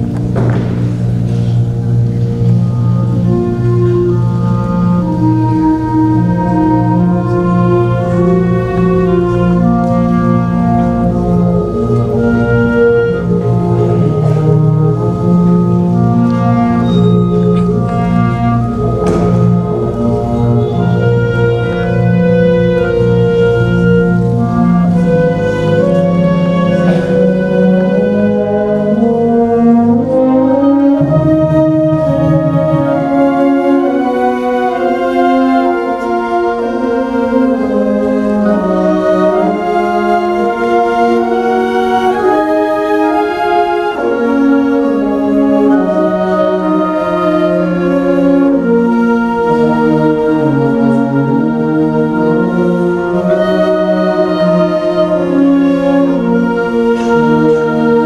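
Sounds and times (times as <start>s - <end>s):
brass band music: 0.0s - 58.0s.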